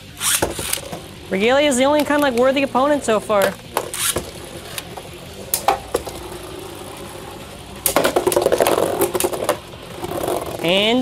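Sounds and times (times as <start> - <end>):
spinning tops clattering: 0.0 - 10.7
spinning tops whirring: 0.0 - 10.8.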